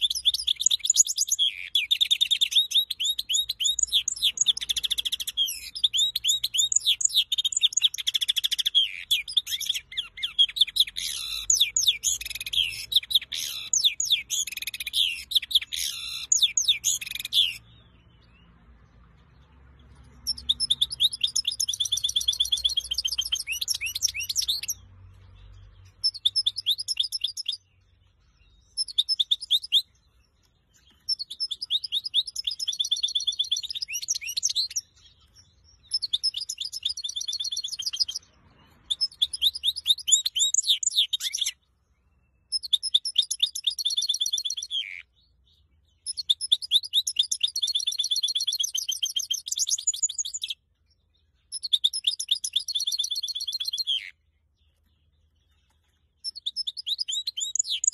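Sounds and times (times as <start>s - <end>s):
finch singing trills: 0.0s - 57.9s.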